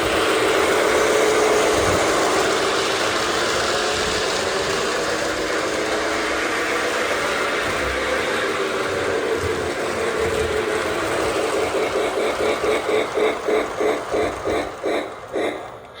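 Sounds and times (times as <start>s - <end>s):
constant hum: 0.0s - 16.0s
toy train motor whirring: 0.0s - 16.0s.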